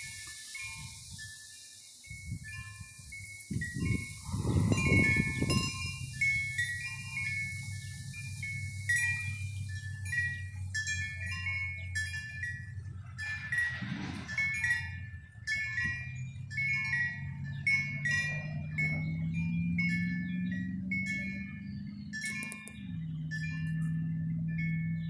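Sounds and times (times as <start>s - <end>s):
wind chime ringing: 0.0s - 25.0s
low hum: 4.2s - 25.0s.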